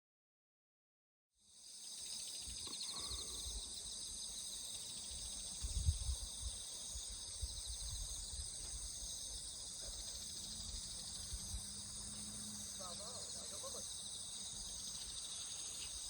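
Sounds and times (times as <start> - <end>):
insects singing: 1.5 - 16.0.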